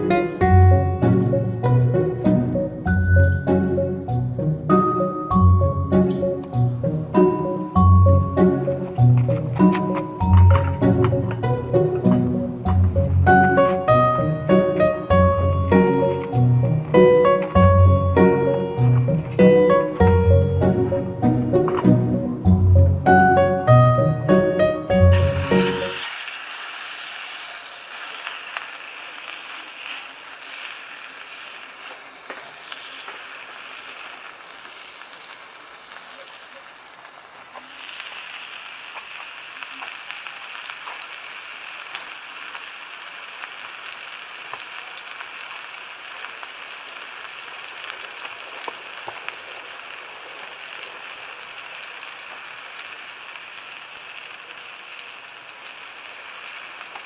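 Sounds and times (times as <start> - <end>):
food sizzling in a frying pan: 4.7 - 23.8, 24.5 - 57.0.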